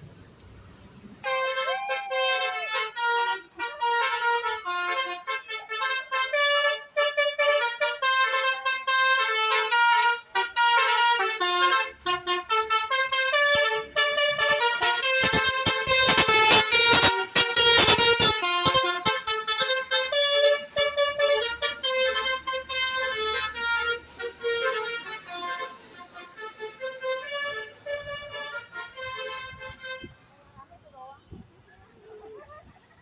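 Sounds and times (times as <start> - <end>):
multi-tone bus horn melody: 1.2 - 30.5.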